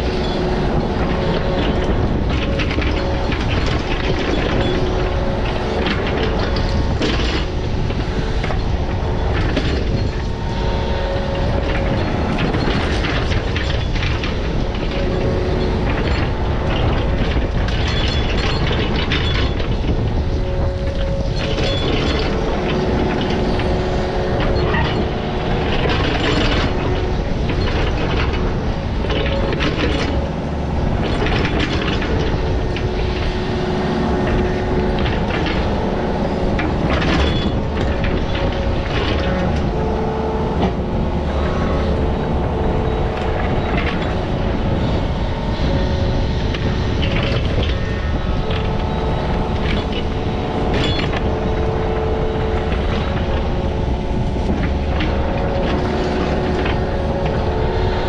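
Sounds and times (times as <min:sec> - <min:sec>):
diesel machine running: 0:00.0 - 0:58.0
metal clanking and rattling: 0:00.0 - 0:58.0.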